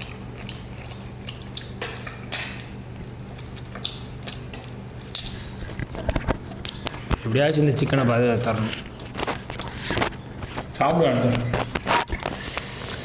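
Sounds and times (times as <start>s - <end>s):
chewing and tearing meat: 0.0s - 10.8s
steady low hum: 0.0s - 13.0s.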